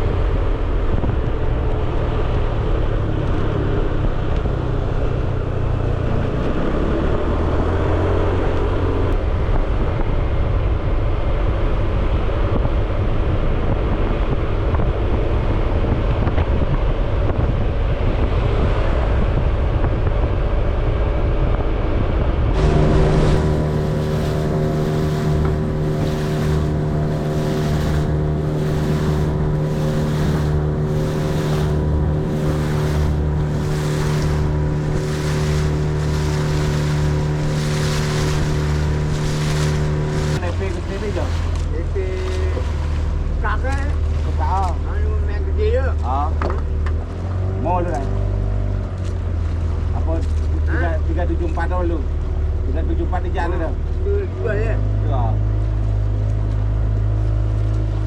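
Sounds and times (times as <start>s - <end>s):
water rushing past hull: 0.0s - 20.9s, 21.9s - 58.0s
wind buffeting microphone: 0.0s - 47.1s
boat engine running: 0.0s - 58.0s.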